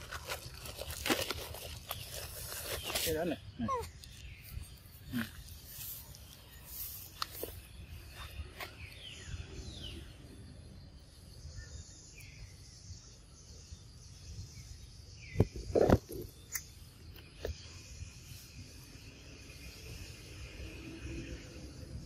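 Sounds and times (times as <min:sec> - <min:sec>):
insects buzzing: 0:01.0 - 0:22.0.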